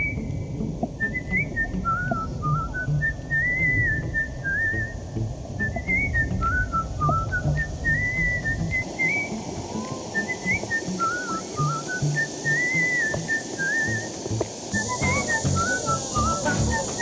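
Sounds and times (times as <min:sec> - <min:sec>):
whistled music melody: 0:00.0 - 0:17.0.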